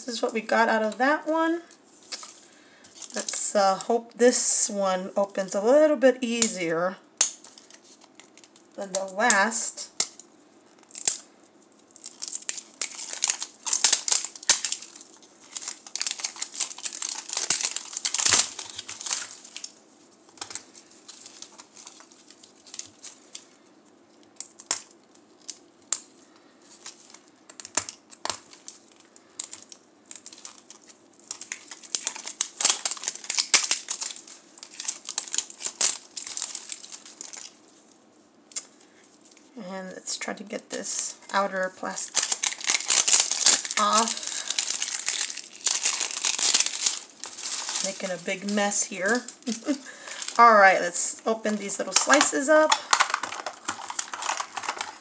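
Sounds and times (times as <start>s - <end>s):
plastic wrapping crinkling and tearing: 0.1s - 3.9s, 7.2s - 39.6s, 40.2s - 55.0s.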